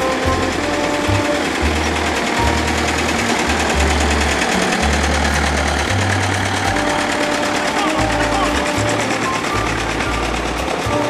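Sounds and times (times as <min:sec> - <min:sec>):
diesel locomotive engine clatter: 0:00.0 - 0:11.0
music: 0:00.0 - 0:11.0.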